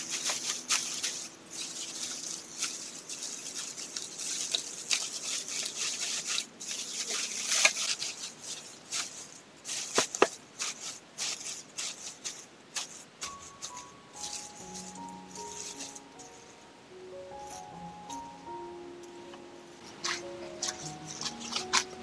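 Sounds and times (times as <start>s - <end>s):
straw cracking: 0.0s - 16.6s, 19.3s - 22.0s
dry straw rustling and crackling: 0.0s - 22.0s.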